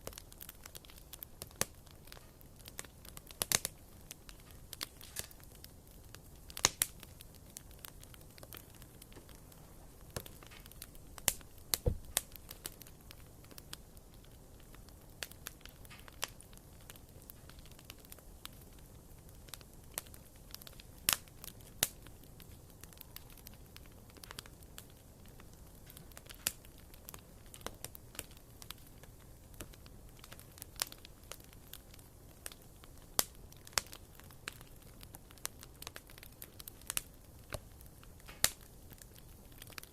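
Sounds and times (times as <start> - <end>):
faint steady hiss: 0.0 - 39.9
firewood crackling and popping: 0.0 - 39.9.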